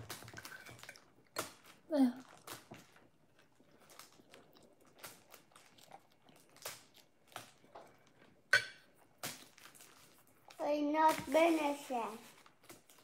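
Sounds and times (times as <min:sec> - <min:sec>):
toast crunching: 0:00.0 - 0:13.0.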